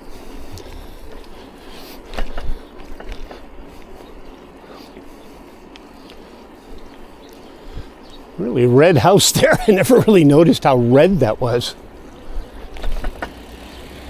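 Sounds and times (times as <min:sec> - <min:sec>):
bicycle tyres hissing on road: 0:00.0 - 0:09.2, 0:10.2 - 0:14.0.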